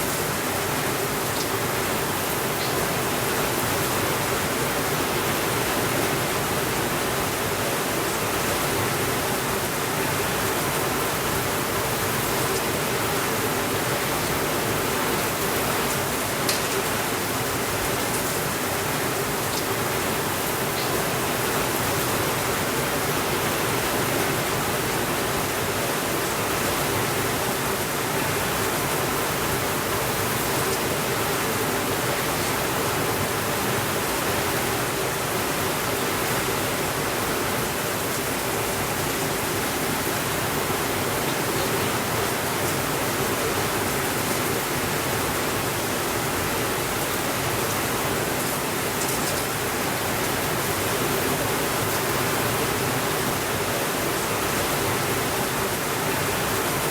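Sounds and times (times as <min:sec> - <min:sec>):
steady rain hissing: 0:00.0 - 0:56.9.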